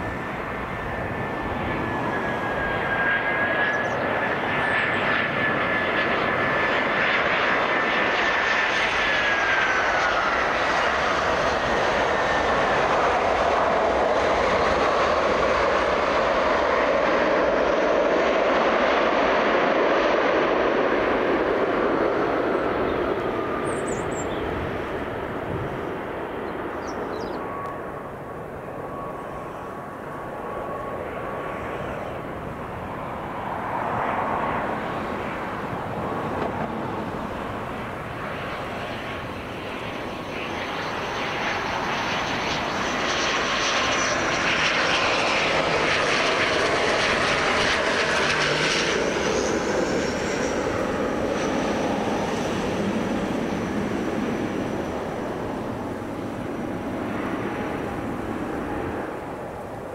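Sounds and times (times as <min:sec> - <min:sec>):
airliner engines running: 0:00.0 - 0:59.9
high engine whine: 0:00.0 - 0:59.9.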